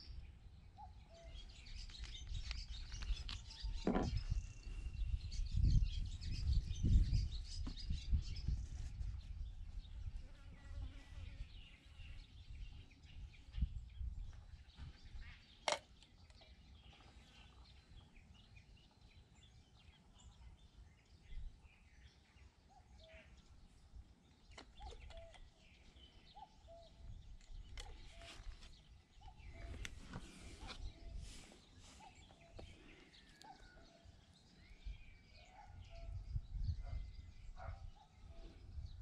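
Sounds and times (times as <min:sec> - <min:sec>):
birds chirping: 0:00.0 - 0:08.8, 0:09.4 - 0:39.0.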